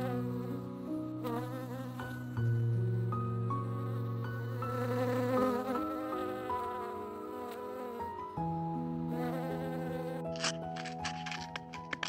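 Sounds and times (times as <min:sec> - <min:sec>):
honeybee buzzing: 0:00.0 - 0:12.0
soft music of long held notes: 0:00.0 - 0:12.0.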